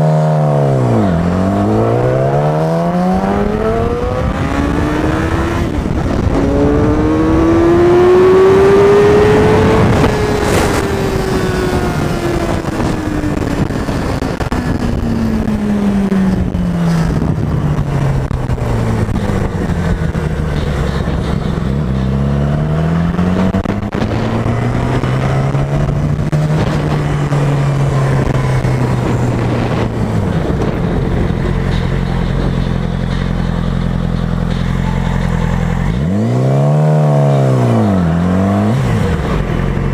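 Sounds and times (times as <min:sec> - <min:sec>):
motorcycle engine revving: 0:00.0 - 0:39.9
wind rushing over microphone: 0:00.6 - 0:34.6.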